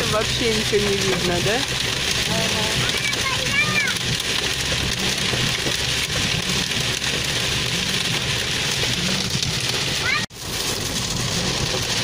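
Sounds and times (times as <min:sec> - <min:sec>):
car rumbling on wet road: 0:00.0 - 0:12.0
heavy rain on car roof: 0:00.0 - 0:12.0.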